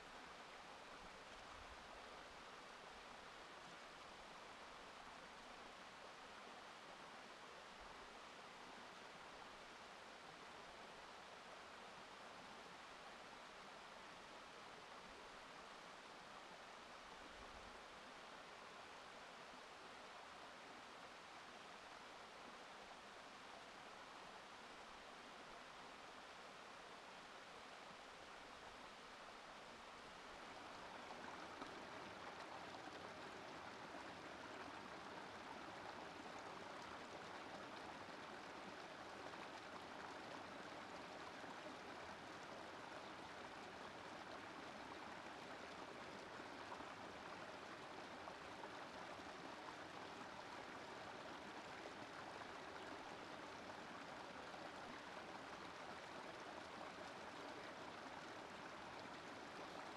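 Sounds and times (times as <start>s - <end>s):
brook flowing over stones: 0.0s - 59.9s.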